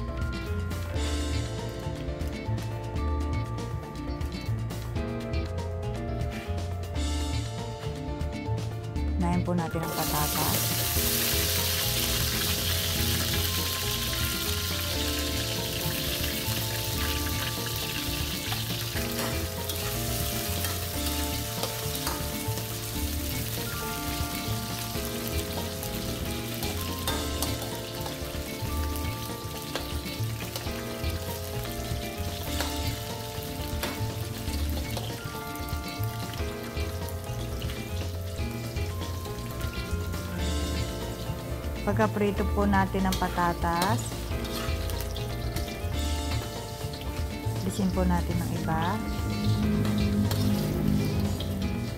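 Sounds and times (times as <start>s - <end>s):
potatoes sizzling in oil: 9.8s - 51.9s.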